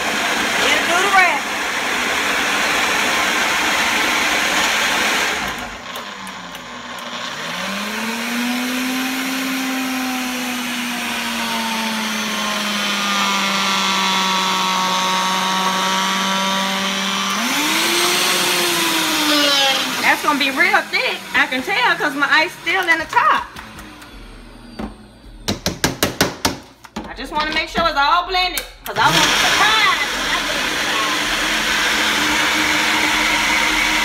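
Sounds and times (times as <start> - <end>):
blender motor running: 0.0 - 26.2, 28.9 - 34.0.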